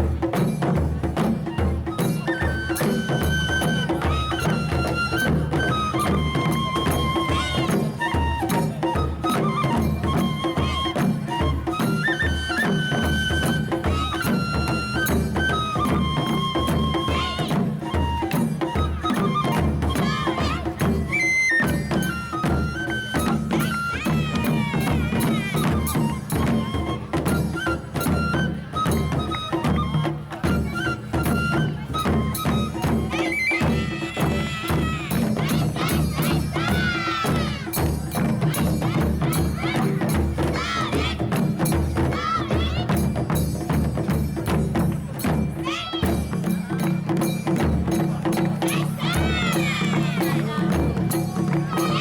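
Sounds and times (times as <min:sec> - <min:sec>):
taiko drums beating: 0:00.0 - 0:52.0.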